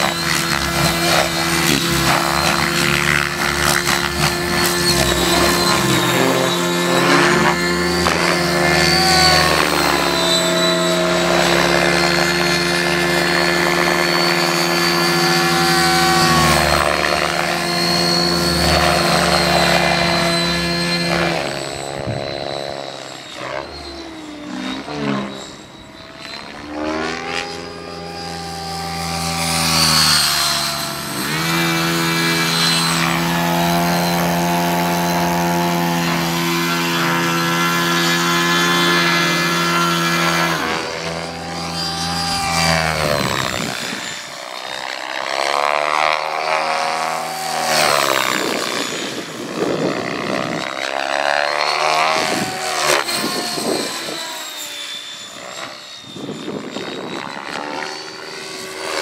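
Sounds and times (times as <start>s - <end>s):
model helicopter rotor whine: 0.0s - 59.0s.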